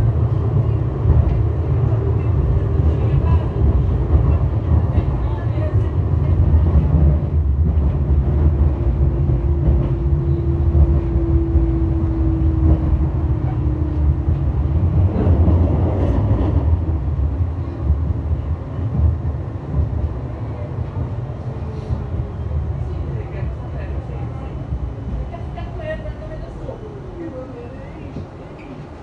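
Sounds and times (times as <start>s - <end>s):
tram rumble from inside: 0.0s - 29.0s.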